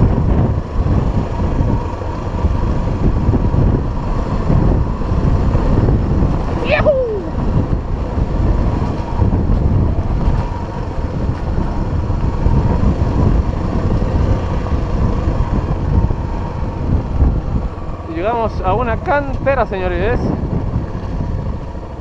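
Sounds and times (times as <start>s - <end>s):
motorcycle engine running: 0.0s - 22.0s
wind rumble on microphone: 0.0s - 22.0s.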